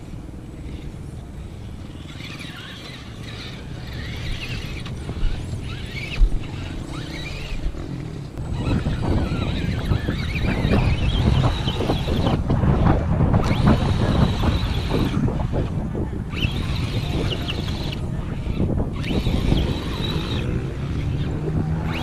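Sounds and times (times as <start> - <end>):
rc motor and gears whining: 0.0 - 22.0
wind on microphone: 0.0 - 22.0.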